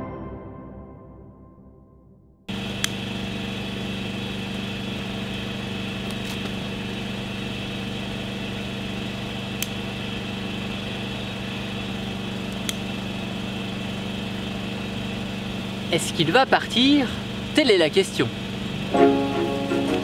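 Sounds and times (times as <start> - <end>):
steady engine hum: 2.5 - 20.0.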